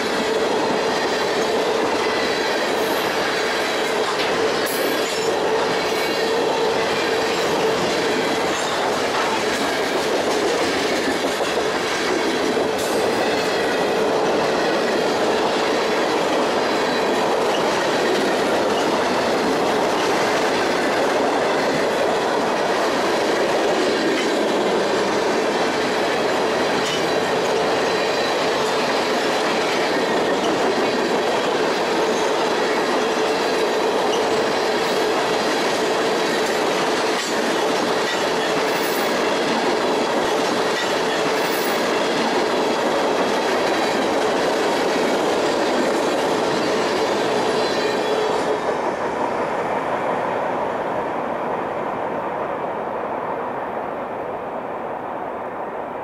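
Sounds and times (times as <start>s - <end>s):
freight train wheels clattering: 0.0s - 49.4s.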